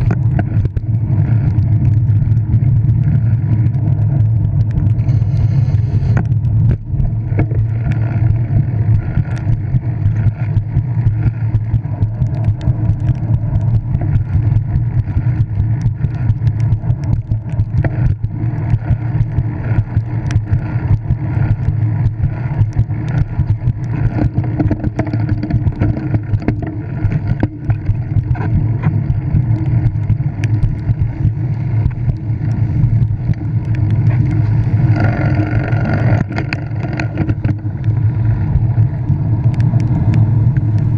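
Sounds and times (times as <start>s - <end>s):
bicycle tyres on wet road: 0.0s - 40.9s
small clicks and rattles: 0.0s - 40.9s
wind rumble on microphone: 0.0s - 40.9s.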